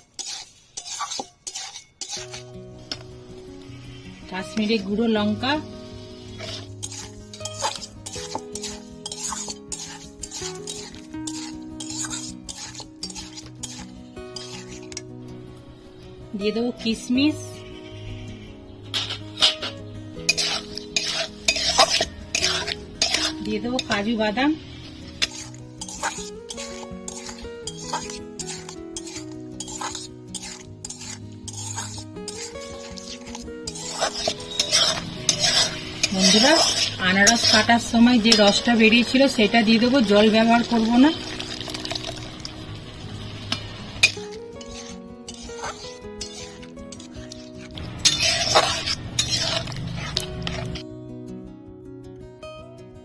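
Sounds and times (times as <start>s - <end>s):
metal spatula scraping metal pan: 0.0s - 15.3s, 16.5s - 50.8s
food sizzling in wok: 0.0s - 50.8s
soft background music: 0.0s - 53.0s.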